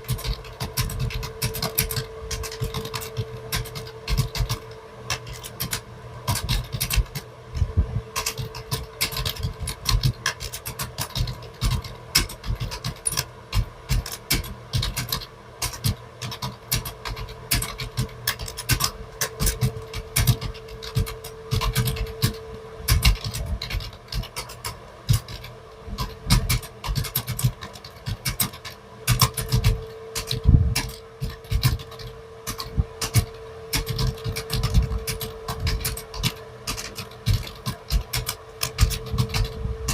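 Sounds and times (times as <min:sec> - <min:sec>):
computer keyboard typing: 0:00.0 - 0:07.3, 0:08.1 - 0:39.9
faint steady hum: 0:00.0 - 0:39.9.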